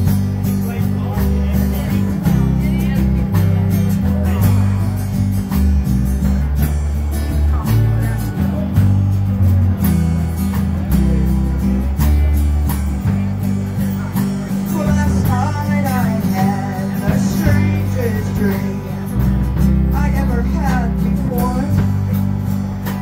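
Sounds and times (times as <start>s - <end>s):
lead guitar bending notes: 0.0s - 23.0s
strummed acoustic guitars: 0.0s - 23.0s
sustained bass notes: 0.0s - 23.0s.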